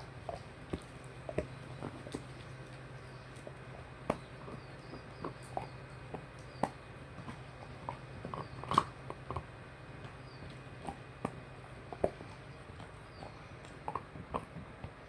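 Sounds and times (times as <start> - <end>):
dog gnawing a bone: 0.0 - 15.0.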